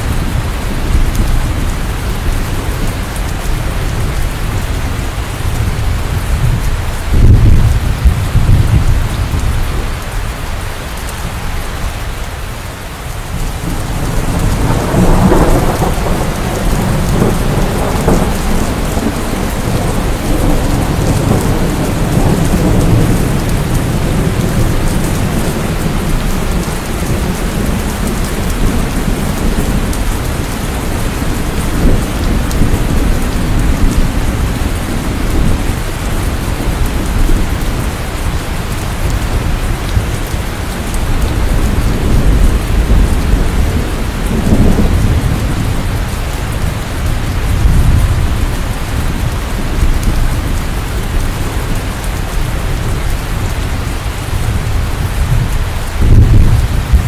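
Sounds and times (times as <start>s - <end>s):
rolling thunder: 0.0s - 10.3s, 13.2s - 57.0s
steady rain: 0.0s - 57.0s.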